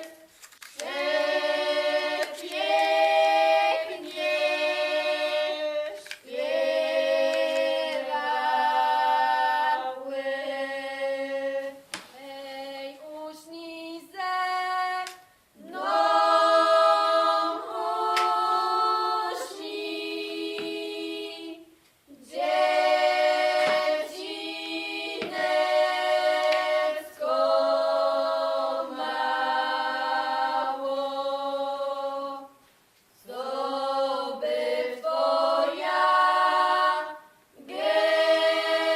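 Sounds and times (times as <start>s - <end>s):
choir singing a cappella: 0.0s - 32.6s, 33.2s - 38.9s.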